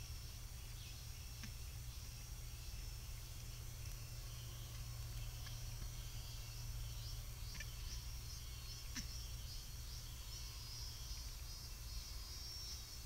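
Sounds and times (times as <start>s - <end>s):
constant low hum: 0.0s - 13.0s
insects chirring: 0.0s - 13.0s.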